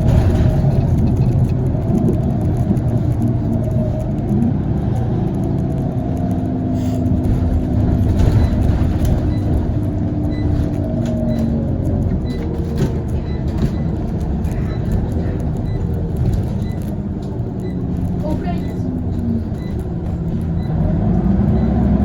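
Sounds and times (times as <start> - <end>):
bus diesel engine rumble: 0.0 - 22.0
gearbox whine: 0.0 - 22.0.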